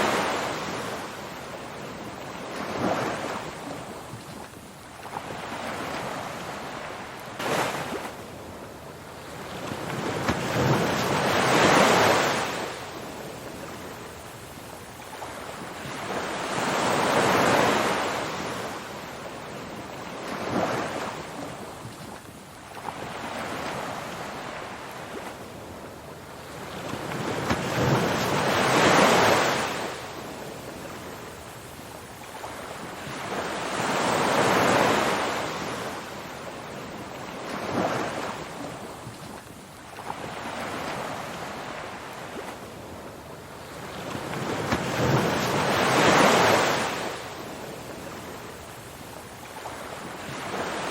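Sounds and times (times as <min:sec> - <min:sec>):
ocean waves breaking: 0:00.0 - 0:14.3, 0:15.1 - 0:50.9.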